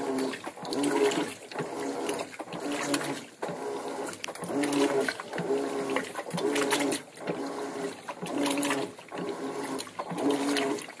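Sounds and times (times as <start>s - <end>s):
washing machine motor humming: 0.0s - 11.0s
water sloshing in tub: 0.0s - 11.0s.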